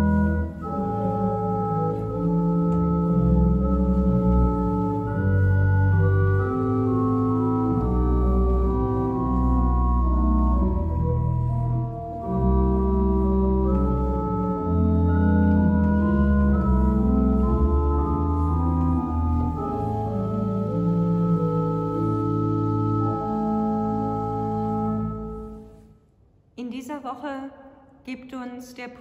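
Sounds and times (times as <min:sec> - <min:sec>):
pipe organ chords: 0:00.0 - 0:25.8.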